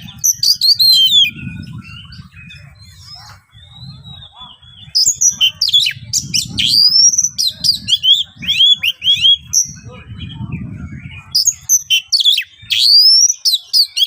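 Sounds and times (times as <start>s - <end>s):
bird singing whistles: 0.0s - 14.0s.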